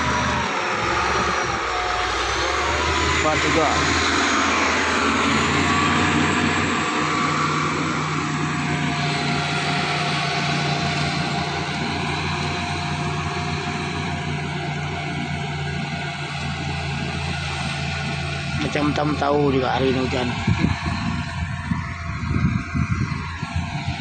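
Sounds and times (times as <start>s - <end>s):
constant whine: 0.0s - 24.0s
construction machine engine droning: 0.0s - 24.0s.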